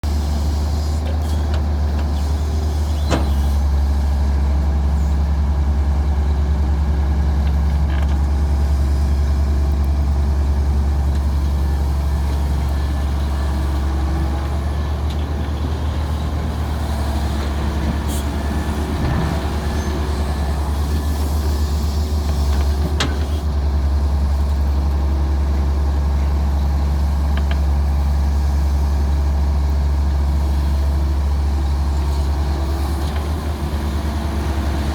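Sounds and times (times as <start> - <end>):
diesel engine humming: 0.0 - 34.9.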